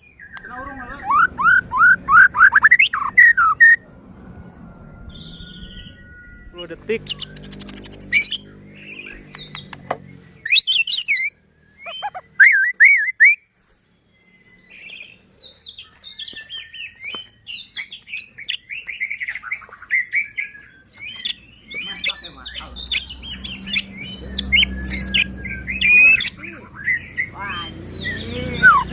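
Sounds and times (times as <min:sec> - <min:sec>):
bird singing whistled phrases: 0:00.2 - 0:03.8, 0:04.4 - 0:09.7, 0:10.4 - 0:13.5, 0:14.1 - 0:28.9.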